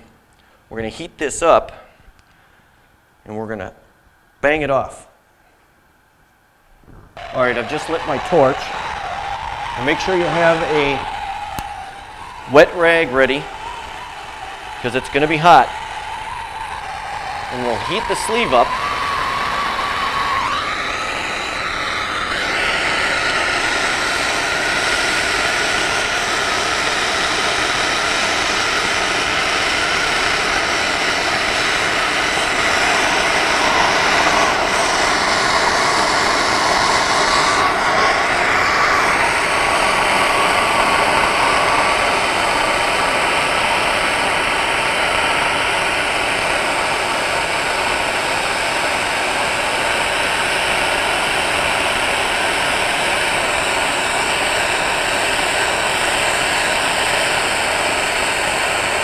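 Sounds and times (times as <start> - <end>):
gas torch hissing: 6.8 - 59.0.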